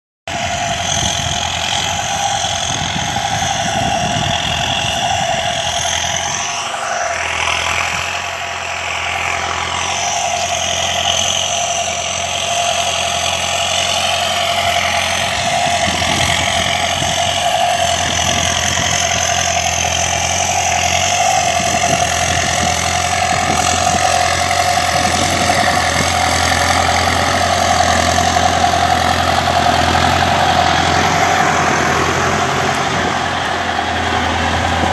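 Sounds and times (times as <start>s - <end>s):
tractor diesel engine under load: 0.2s - 34.9s.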